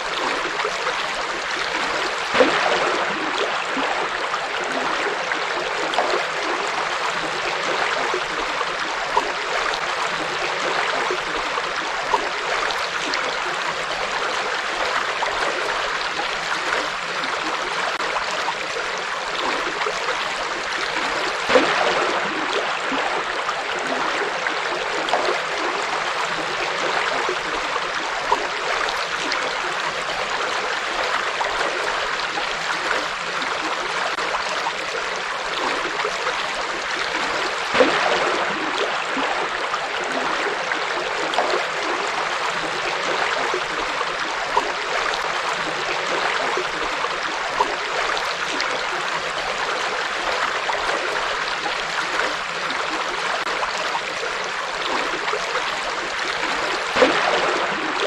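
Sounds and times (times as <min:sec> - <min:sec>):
river water flowing: 0:00.0 - 0:58.0
water splashes: 0:00.0 - 0:58.0.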